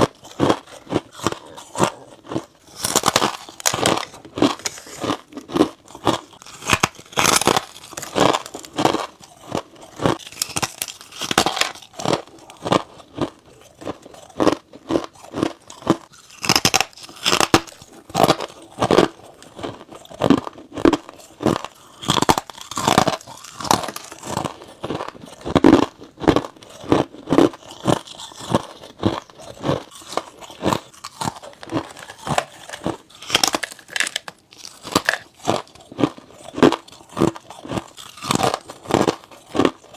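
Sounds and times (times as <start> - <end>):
crunching ice while chewing: 0.0 - 39.9.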